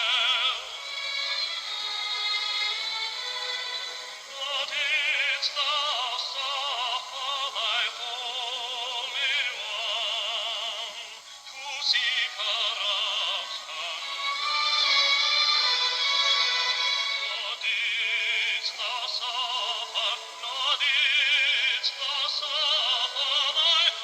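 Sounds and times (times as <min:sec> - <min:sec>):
background music: 0:00.0 - 0:24.0
person singing with vibrato: 0:00.0 - 0:24.0.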